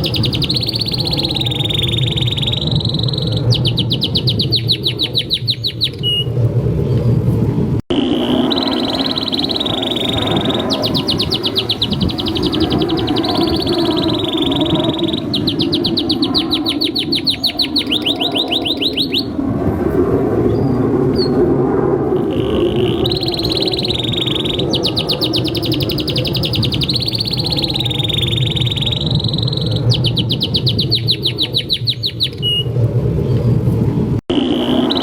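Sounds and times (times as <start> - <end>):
canary singing trills: 0.0 - 6.3, 7.9 - 19.4, 22.2 - 32.7.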